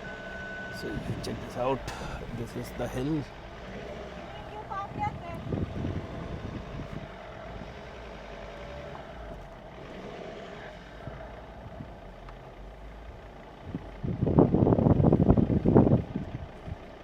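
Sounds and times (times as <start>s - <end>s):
suv engine rumbling: 0.0s - 17.0s.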